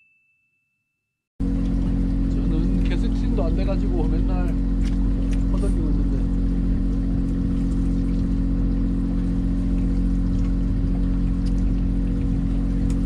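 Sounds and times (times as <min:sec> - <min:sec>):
boat engine humming: 0:01.4 - 0:13.0
water washing: 0:01.4 - 0:13.0.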